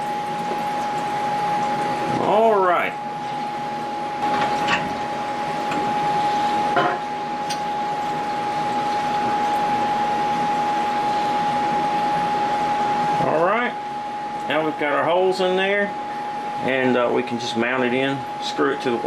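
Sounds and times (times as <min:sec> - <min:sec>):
milling machine high whine: 0:00.0 - 0:19.0.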